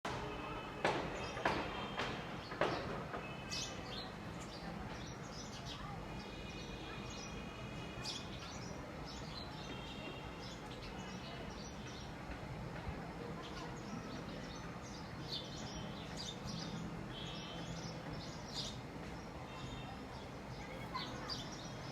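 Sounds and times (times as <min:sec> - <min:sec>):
small birds chirping: 0:01.1 - 0:21.9.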